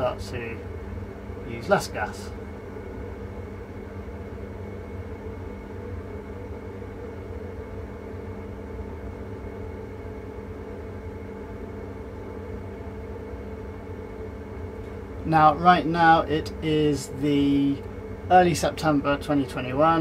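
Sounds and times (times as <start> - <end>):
gas boiler humming: 0.0 - 20.0.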